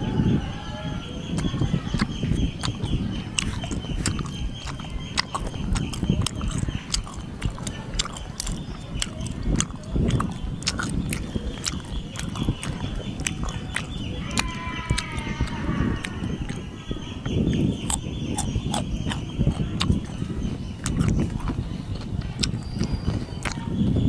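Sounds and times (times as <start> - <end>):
chewing crispy pork: 0.6 - 24.0
crunching crisp skin: 1.3 - 16.7, 17.8 - 23.8.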